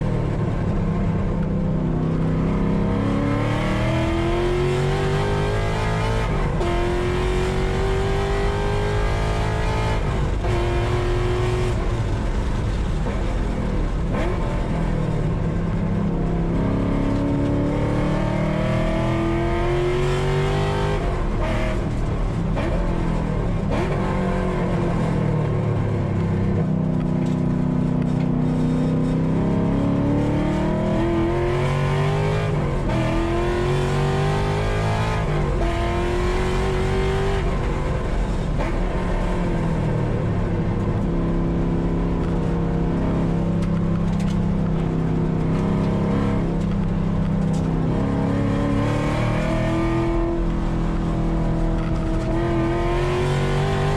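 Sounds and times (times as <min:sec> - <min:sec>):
car engine accelerating: 0:00.0 - 0:53.9
road and wind noise: 0:00.0 - 0:53.9.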